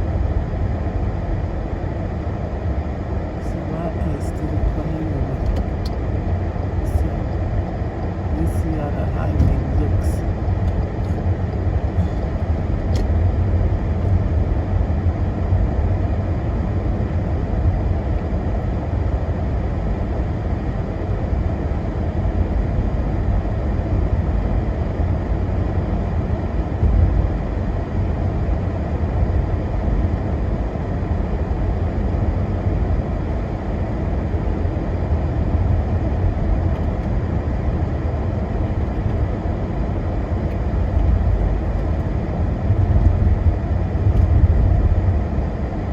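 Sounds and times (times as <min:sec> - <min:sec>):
car road and engine rumble: 0:00.0 - 0:45.9.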